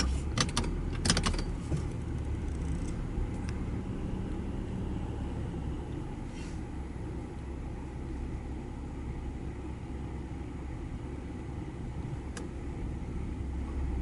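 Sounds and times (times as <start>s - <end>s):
car engine running low: 0.0s - 14.0s.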